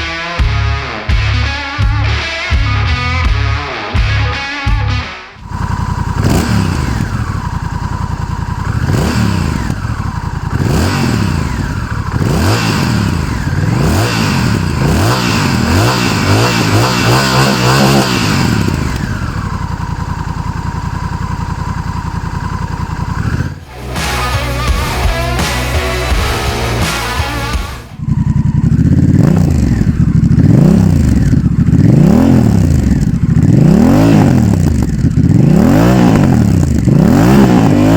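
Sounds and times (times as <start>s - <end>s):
motorcycle engine revving and idling: 5.4s - 37.9s.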